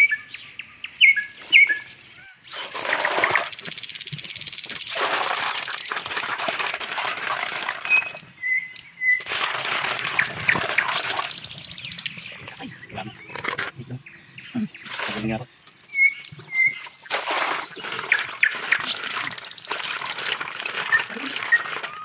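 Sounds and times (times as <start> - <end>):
bird chirping: 0.0 - 2.9, 7.3 - 22.0.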